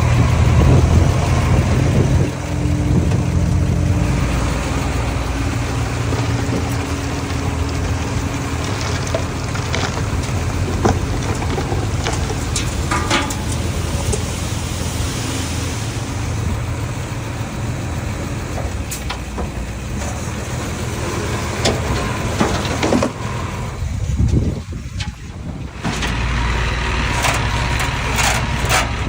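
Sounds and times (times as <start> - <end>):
clanks and rattles of tracks: 0.0 - 14.5, 16.4 - 26.4
bulldozer diesel engine running: 0.0 - 29.0.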